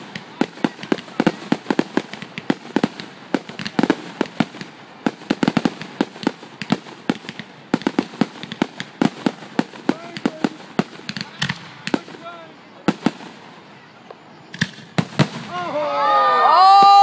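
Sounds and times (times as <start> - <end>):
fireworks bangs and crackles: 0.0 - 15.9.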